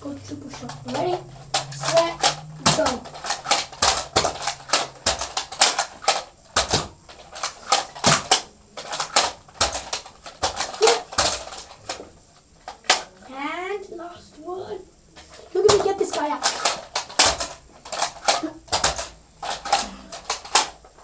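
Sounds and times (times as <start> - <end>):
toy blasters clicking: 0.0 - 13.3, 15.2 - 21.0.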